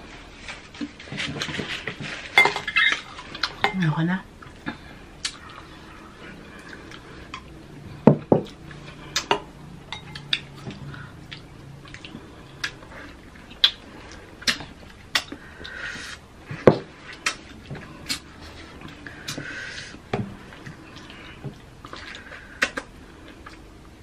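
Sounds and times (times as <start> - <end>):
eating juicy fruit: 0.4 - 24.0.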